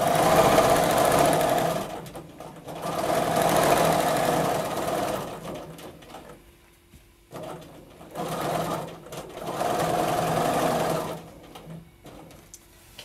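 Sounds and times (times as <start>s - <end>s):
sewing machine needle running: 0.0s - 5.8s, 7.3s - 12.2s.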